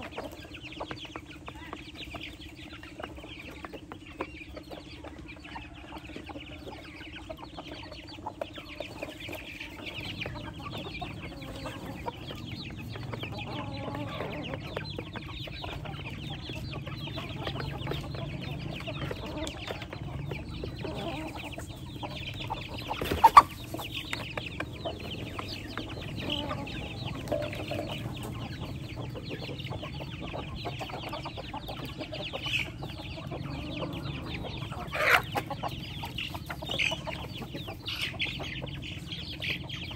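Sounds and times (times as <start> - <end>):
chickens clucking: 0.0 - 39.9
pecking ticks: 0.1 - 34.7.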